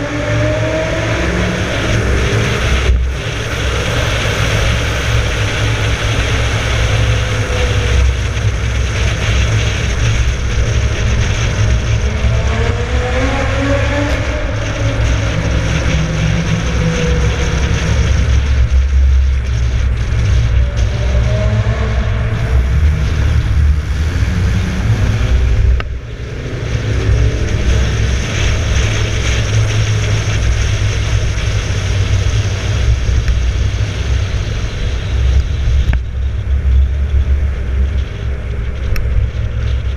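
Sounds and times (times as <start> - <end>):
car engine revving in tunnel: 0.0 - 39.9.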